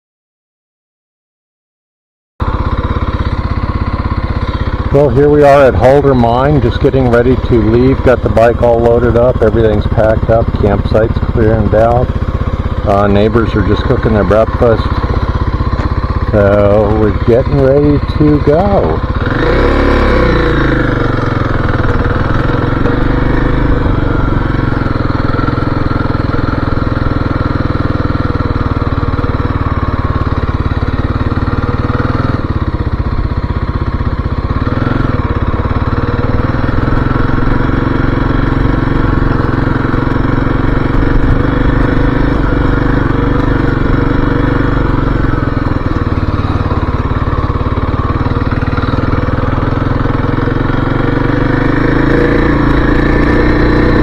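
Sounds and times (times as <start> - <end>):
motorcycle engine running: 2.4 - 54.0.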